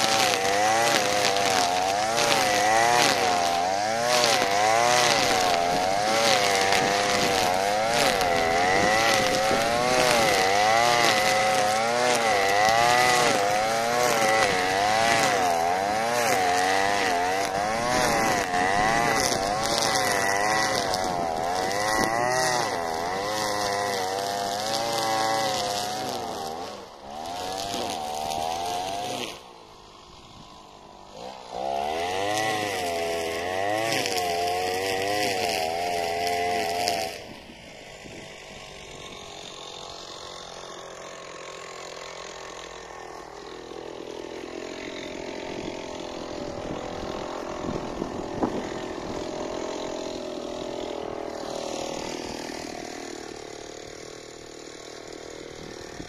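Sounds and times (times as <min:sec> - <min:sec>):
brushcutter cutting grass: 0:00.0 - 0:56.0.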